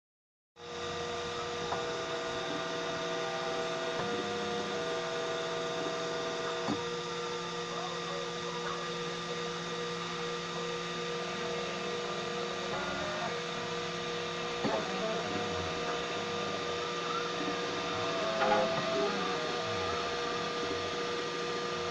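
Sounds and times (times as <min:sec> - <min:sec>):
machine hum: 0:00.6 - 0:21.9
printer stepper motors whining: 0:00.6 - 0:21.9.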